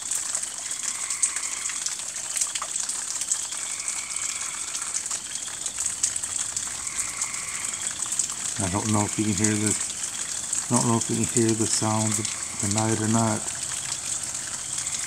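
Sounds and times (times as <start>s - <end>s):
drops ticking: 0.0s - 15.0s
steady rain hiss: 0.0s - 15.0s.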